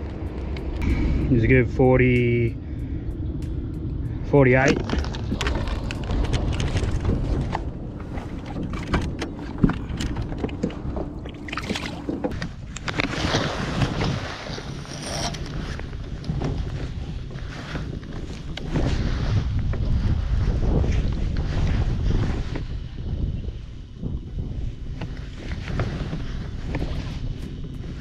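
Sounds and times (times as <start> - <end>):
water around boat: 0.0 - 28.0
wind on microphone: 0.0 - 28.0.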